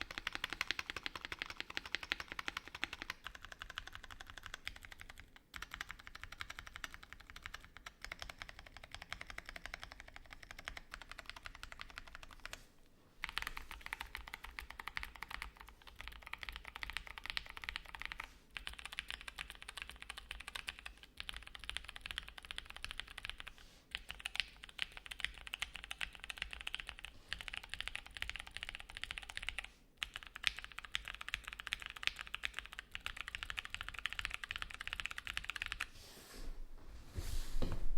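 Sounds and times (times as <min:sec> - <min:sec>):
mechanical keyboard typing: 0:00.0 - 0:12.6, 0:13.2 - 0:35.9.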